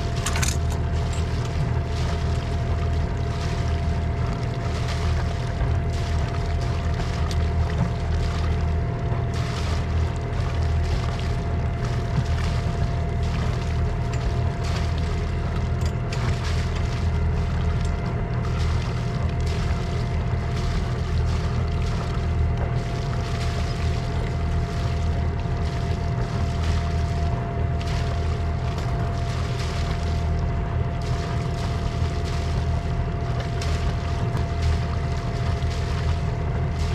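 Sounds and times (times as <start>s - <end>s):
boat engine droning: 0.0s - 36.9s.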